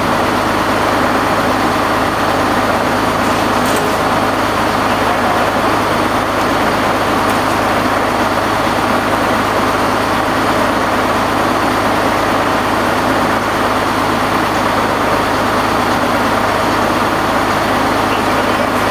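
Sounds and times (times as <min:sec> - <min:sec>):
radial aircraft engine running: 0:00.0 - 0:18.9.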